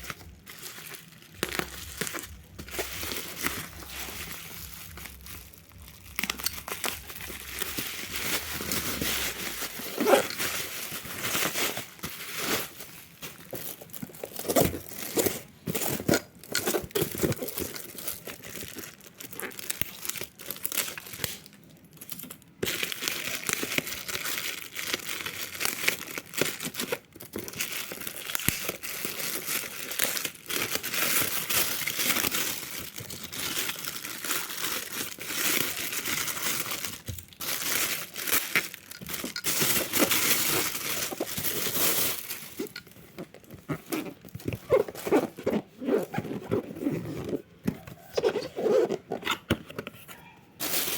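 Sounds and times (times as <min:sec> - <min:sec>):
packaging crinkling and tearing: 0:00.0 - 0:50.9.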